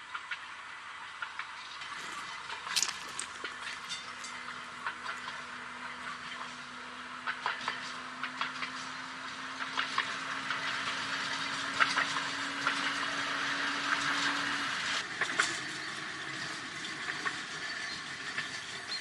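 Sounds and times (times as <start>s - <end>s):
tram running on rails: 0.4s - 19.0s
tram low hum: 0.8s - 19.0s.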